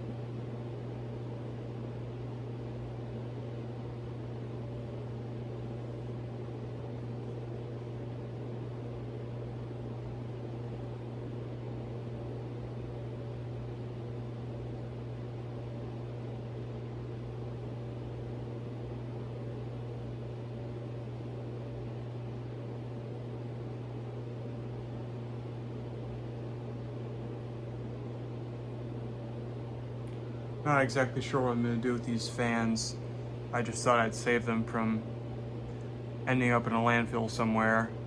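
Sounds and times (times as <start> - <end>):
ceiling fan hum: 0.0 - 38.0.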